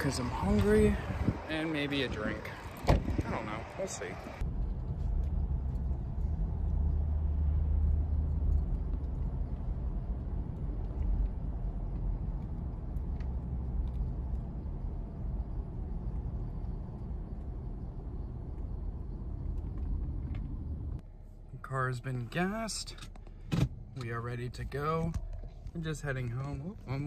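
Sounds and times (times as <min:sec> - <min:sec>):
car engine and tyres rumble: 0:00.0 - 0:27.0.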